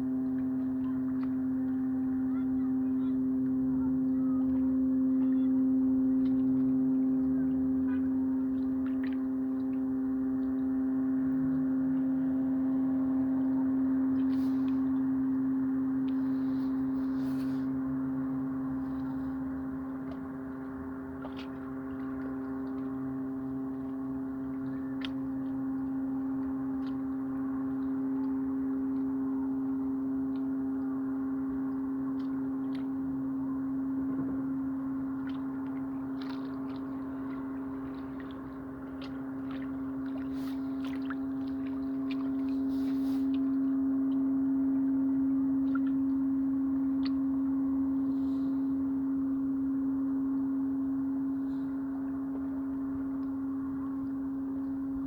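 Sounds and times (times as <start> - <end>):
low humming drone: 0.0 - 55.0.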